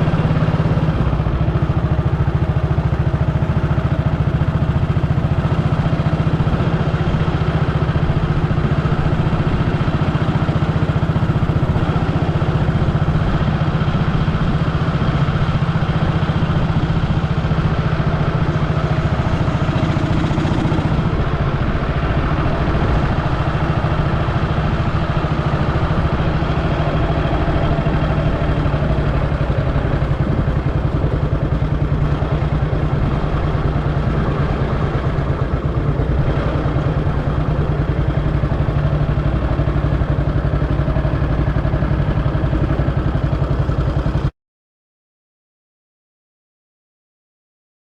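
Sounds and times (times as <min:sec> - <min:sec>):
motorcycle engine running: 0:00.0 - 0:44.3.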